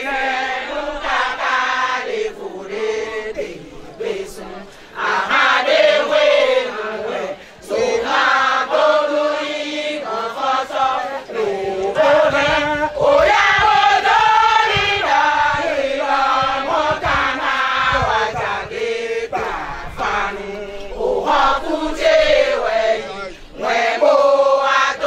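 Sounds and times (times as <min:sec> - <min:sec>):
women singing chant in chorus: 0:00.0 - 0:25.0.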